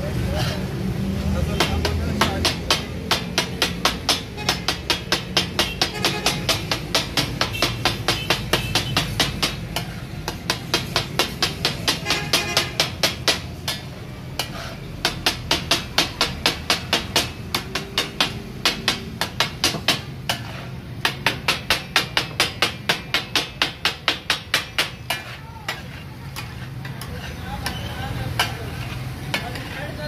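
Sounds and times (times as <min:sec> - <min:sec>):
steel spatulas clanging on griddle: 0:01.5 - 0:30.0.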